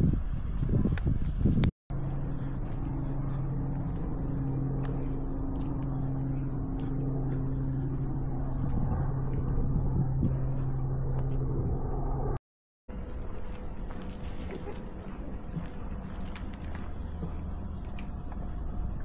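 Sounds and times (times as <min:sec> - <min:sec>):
motor humming: 0:02.0 - 0:19.0.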